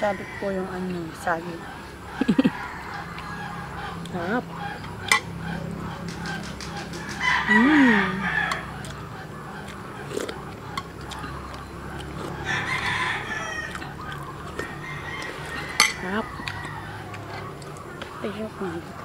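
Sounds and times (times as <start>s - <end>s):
rooster crowing: 0.0s - 9.6s, 11.1s - 19.0s.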